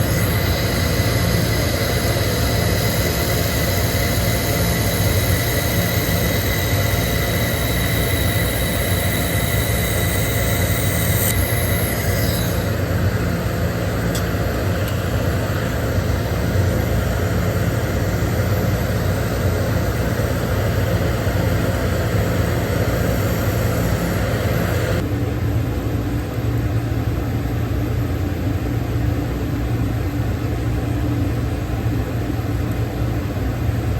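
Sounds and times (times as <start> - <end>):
machine hum and hiss: 0.0 - 33.9.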